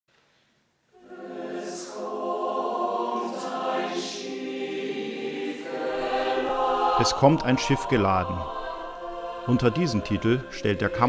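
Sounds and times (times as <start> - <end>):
mixed choir singing: 0.9 - 11.0.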